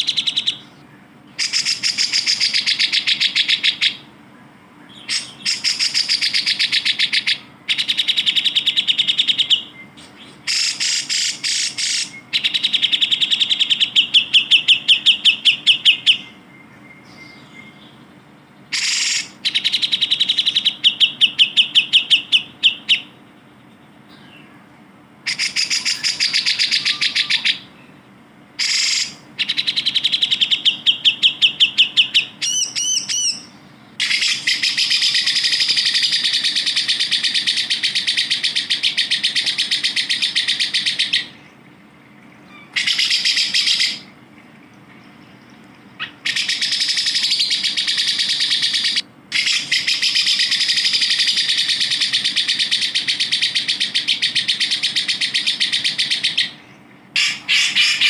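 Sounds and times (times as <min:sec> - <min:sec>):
bird trilling: 0:00.0 - 0:04.1, 0:04.9 - 0:18.0, 0:18.6 - 0:23.2, 0:25.2 - 0:27.9, 0:28.6 - 0:41.6, 0:42.4 - 0:44.2, 0:45.8 - 0:58.0
sweeping whistled bird notes: 0:04.8 - 0:23.2, 0:25.3 - 0:28.0, 0:28.6 - 0:41.6, 0:45.0 - 0:58.0.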